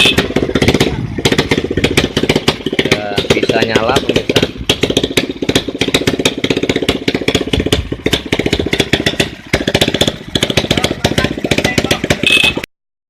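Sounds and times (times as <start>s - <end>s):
motorcycle engine idling: 0.0s - 12.7s.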